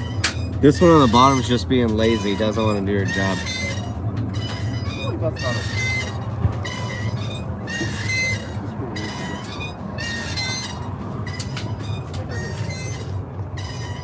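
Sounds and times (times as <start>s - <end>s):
high squealing tones: 0.0s - 14.0s.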